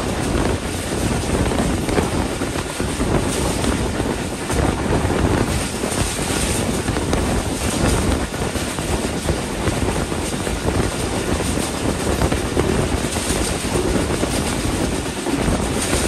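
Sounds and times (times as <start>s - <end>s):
train wheels rumbling on rails: 0.0s - 16.0s
wind rushing: 0.0s - 16.0s.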